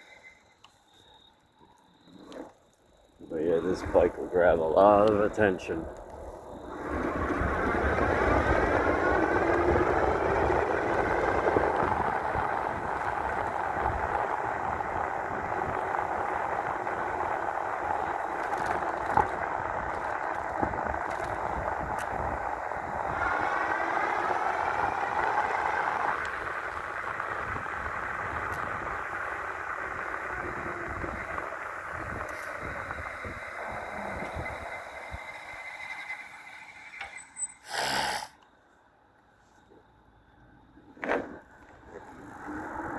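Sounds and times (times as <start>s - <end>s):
tyre and road noise: 0.0s - 42.9s.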